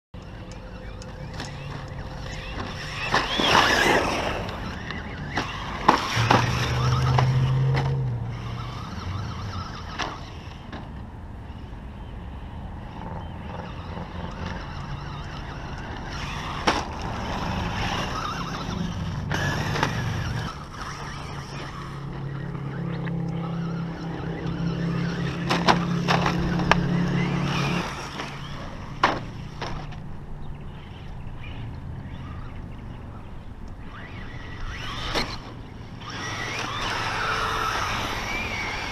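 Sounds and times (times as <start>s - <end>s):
rc car motor whine: 0.2s - 38.9s
tyres scrabbling on dirt: 0.3s - 11.6s, 12.8s - 30.2s, 33.8s - 38.9s.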